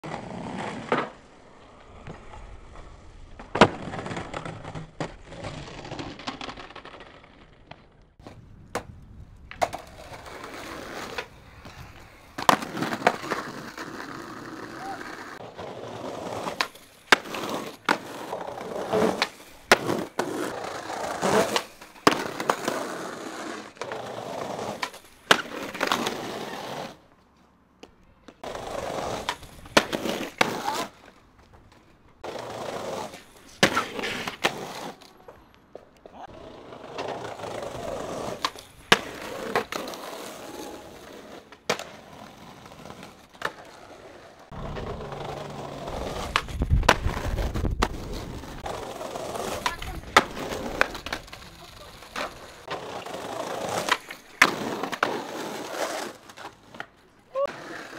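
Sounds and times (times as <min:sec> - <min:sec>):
skateboard wheels rolling on paving: 0:00.0 - 0:57.9
skateboard clacks: 0:03.4 - 0:27.0, 0:27.8 - 0:57.9.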